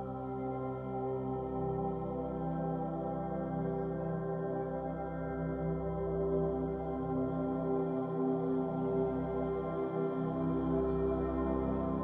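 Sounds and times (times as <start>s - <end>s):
ambient music with sustained tones: 0.0s - 12.0s.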